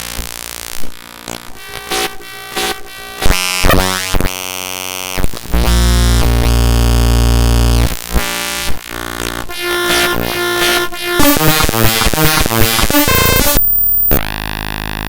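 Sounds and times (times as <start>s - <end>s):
harsh synthetic buzzing tones: 0.0s - 15.0s.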